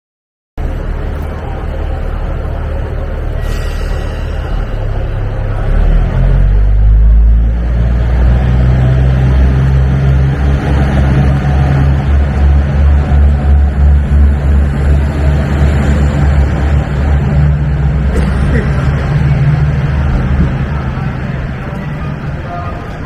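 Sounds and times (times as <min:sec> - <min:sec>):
diesel train engine drone: 0:00.6 - 0:23.0.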